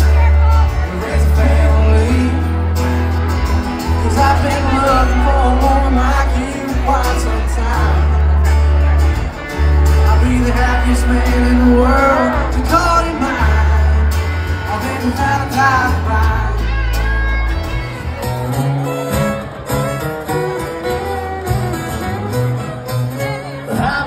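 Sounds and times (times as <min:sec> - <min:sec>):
live country band playing: 0:00.0 - 0:24.0
person singing: 0:00.0 - 0:24.0.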